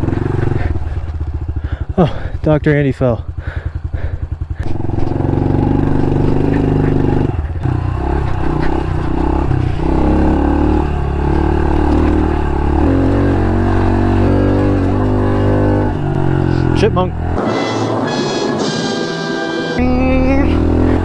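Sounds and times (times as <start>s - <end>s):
motorcycle engine revving: 0.0s - 18.8s, 19.8s - 21.0s.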